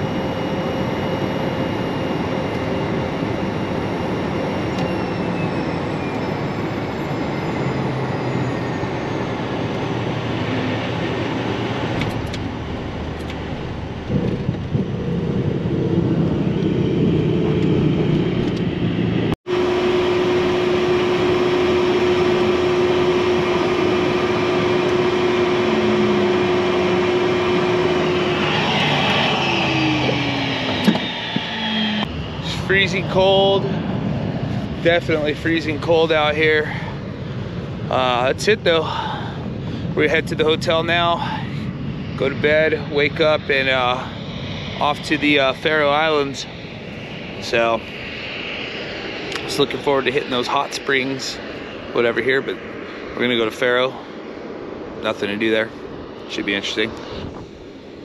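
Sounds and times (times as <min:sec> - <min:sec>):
jet engines whining while taxiing: 0:00.0 - 0:58.0.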